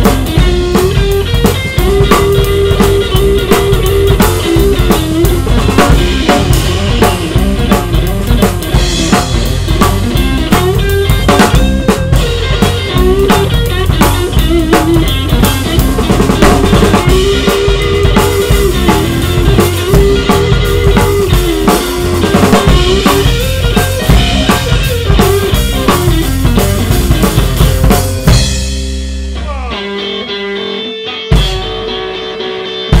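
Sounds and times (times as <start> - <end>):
drum kit: 0.0 - 33.0
electric guitar: 0.0 - 33.0
rock band playing live: 0.0 - 33.0.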